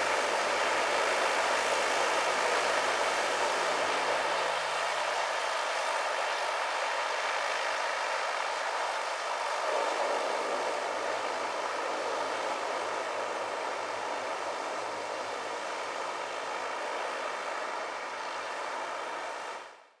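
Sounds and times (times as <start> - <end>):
whine of steady tones: 0.0 - 19.8.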